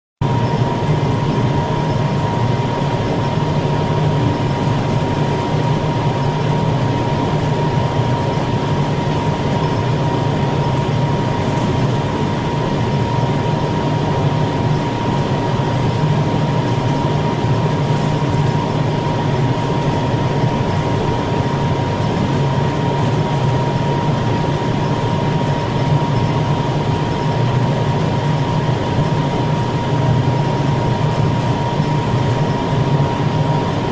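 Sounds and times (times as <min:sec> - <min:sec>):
ventilation unit running: 0:00.2 - 0:33.9.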